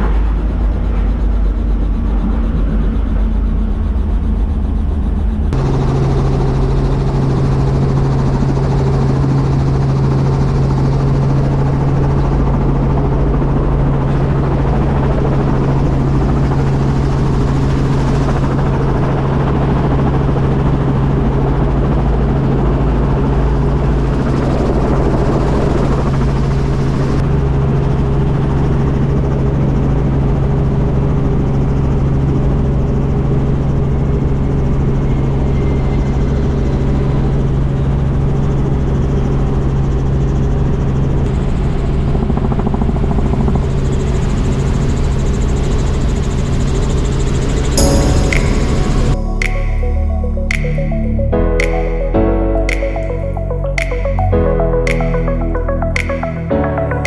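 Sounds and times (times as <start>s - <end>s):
helicopter engine and rotor drone: 0.0s - 49.2s.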